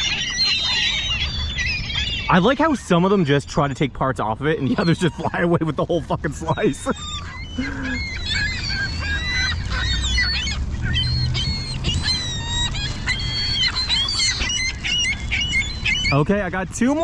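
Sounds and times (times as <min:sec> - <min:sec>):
gulls squawking: 0:00.0 - 0:17.0.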